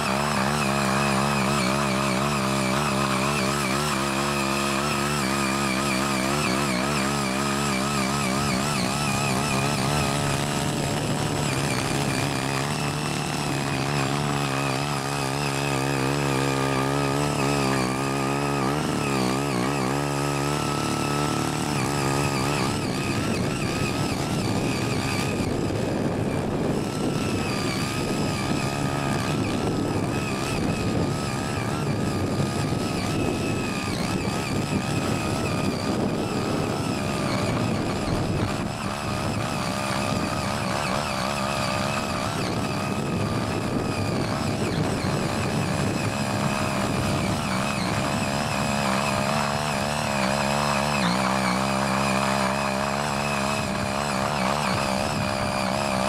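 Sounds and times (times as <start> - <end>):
rotary tiller engine running: 0.0 - 56.0.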